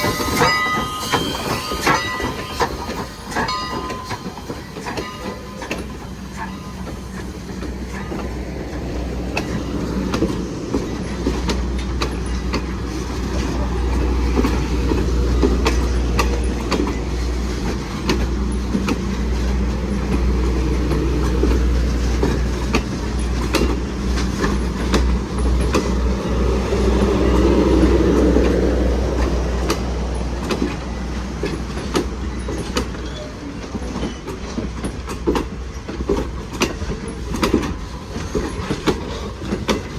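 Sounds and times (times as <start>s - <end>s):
train rumbling past: 0.0s - 39.9s
wheels clicking over rail joints: 0.0s - 39.9s.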